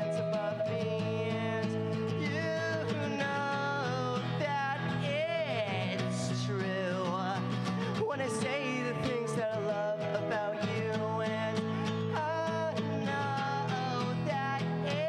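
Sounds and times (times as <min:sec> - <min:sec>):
guitar playing: 0:00.0 - 0:15.0
man singing: 0:00.0 - 0:15.0.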